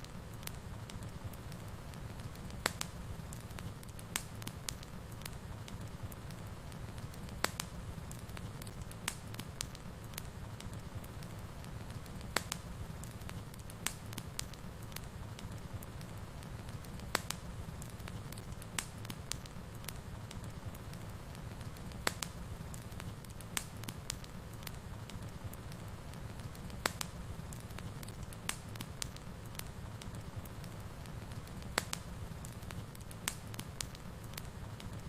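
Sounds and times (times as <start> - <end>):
fire crackling and popping: 0.0 - 35.0
low rumble of flames: 0.0 - 35.0.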